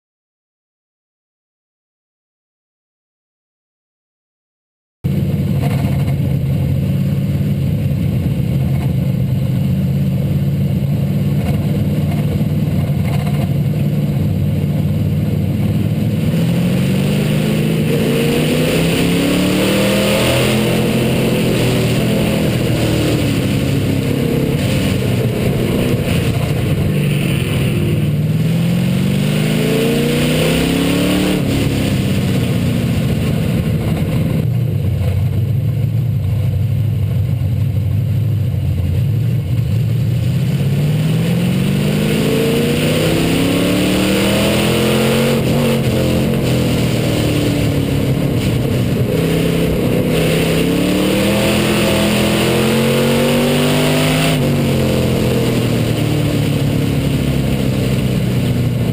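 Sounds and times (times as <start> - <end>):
race car engine revving: 5.1 - 34.6, 39.5 - 58.9.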